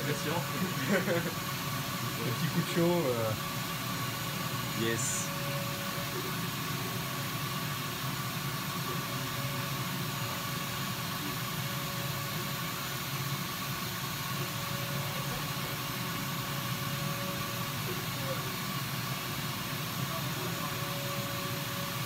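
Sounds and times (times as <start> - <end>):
fan whirr and air hiss: 0.0 - 22.0.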